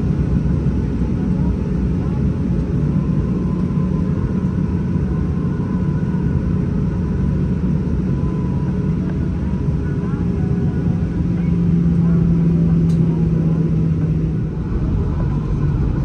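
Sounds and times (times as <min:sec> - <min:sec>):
jet engines idling in cabin: 0:00.0 - 0:16.0.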